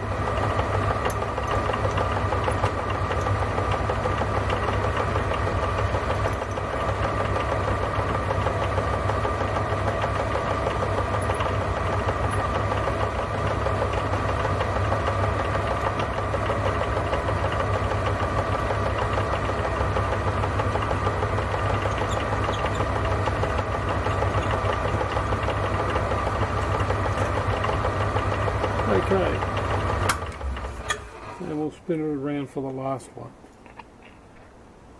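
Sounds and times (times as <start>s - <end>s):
milling machine motor hum: 0.0s - 32.2s.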